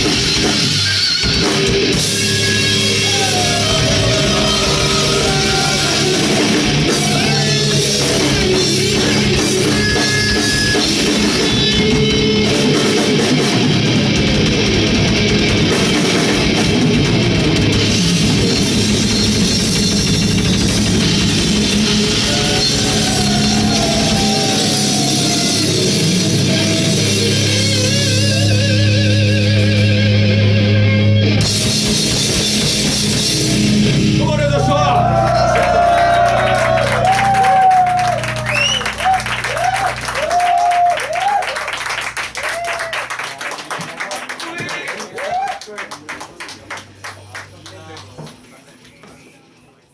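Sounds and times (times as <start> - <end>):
distorted electric guitars: 0.0 - 42.6
drum kit: 0.0 - 44.7.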